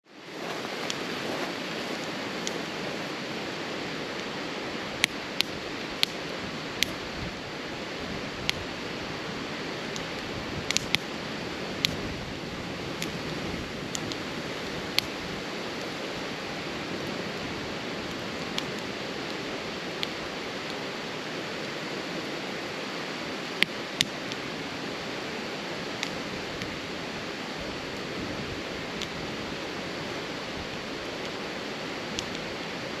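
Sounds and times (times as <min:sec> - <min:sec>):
campfire crackling and popping: 0:00.2 - 0:33.0.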